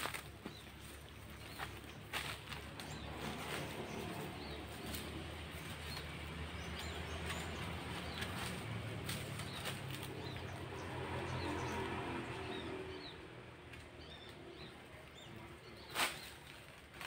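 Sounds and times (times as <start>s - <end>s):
brush rustling: 0.0s - 12.1s, 14.7s - 17.0s.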